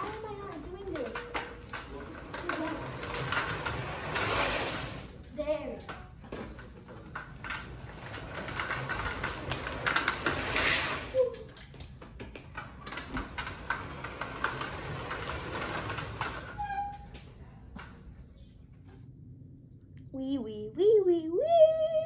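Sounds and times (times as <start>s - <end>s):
plastic wheels rattling and skidding: 0.0s - 17.9s.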